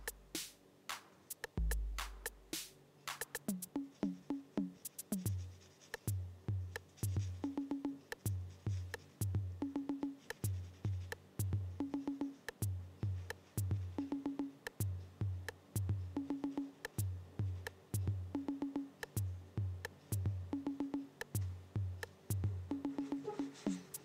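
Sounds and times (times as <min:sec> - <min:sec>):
lo-fi drum machine beat: 0:00.0 - 0:24.0.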